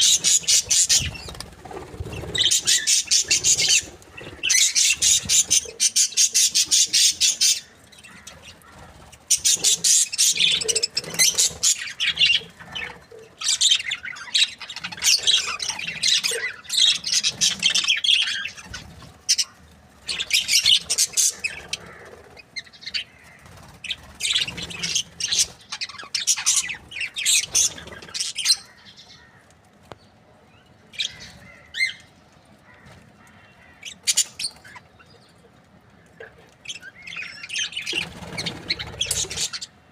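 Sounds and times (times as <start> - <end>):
budgerigars chattering and chirping: 0.0 - 29.3, 36.2 - 39.8.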